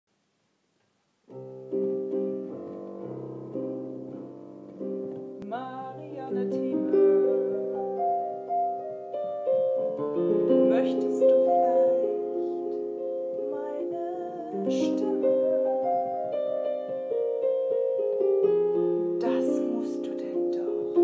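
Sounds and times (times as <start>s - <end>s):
piano playing held chords: 1.3s - 21.0s.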